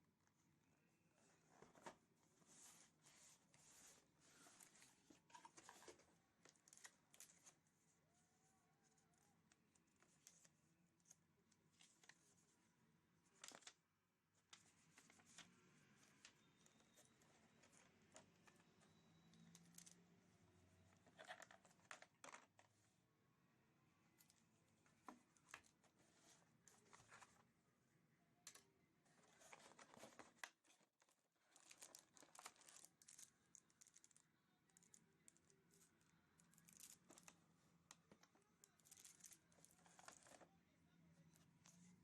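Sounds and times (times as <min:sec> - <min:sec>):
faint handling noises: 0:00.1 - 0:23.0, 0:24.0 - 0:27.6, 0:28.4 - 0:42.0.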